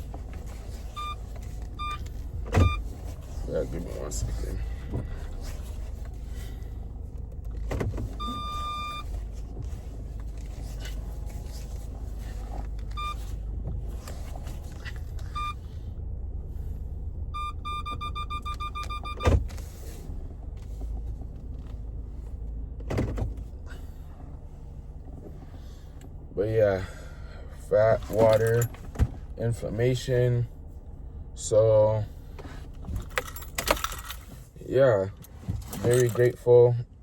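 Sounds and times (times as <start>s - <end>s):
low rumble inside car: 0.0s - 37.0s.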